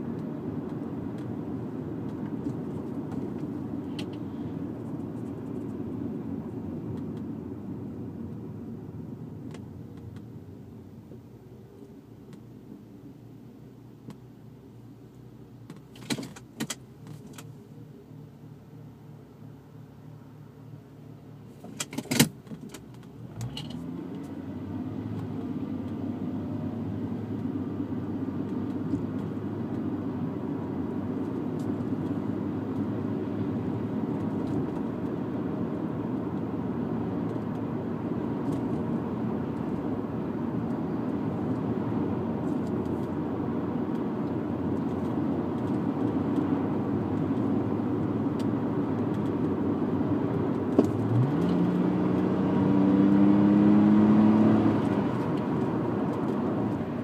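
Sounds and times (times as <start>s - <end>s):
car engine: 0.0s - 57.0s
road noise: 0.0s - 57.0s.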